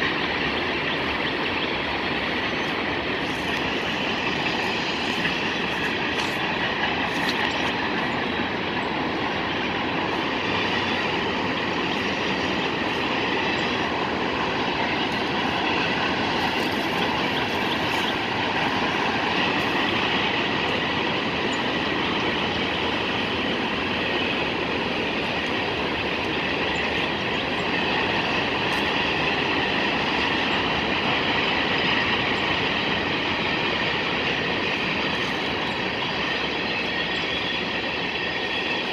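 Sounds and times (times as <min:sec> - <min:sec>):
railroad cars rumbling past: 0:00.0 - 0:38.9.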